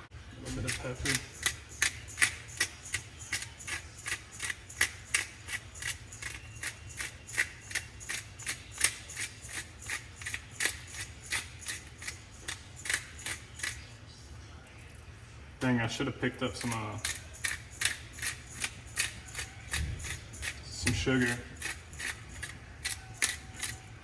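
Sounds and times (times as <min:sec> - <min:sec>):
pepper grinder grinding clicks: 0:00.6 - 0:13.8, 0:16.6 - 0:23.9.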